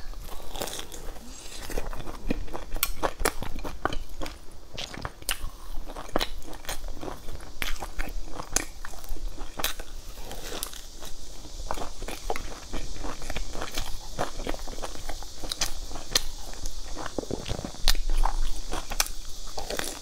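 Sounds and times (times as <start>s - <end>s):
crunchy bites and chewing: 0.0s - 20.0s.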